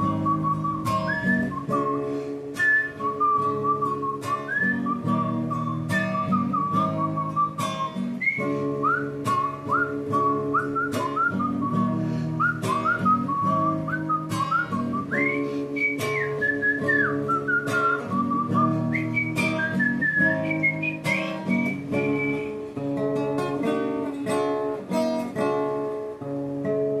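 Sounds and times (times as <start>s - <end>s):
person whistling a melody: 0.0s - 22.8s
strummed acoustic guitar: 0.0s - 27.0s.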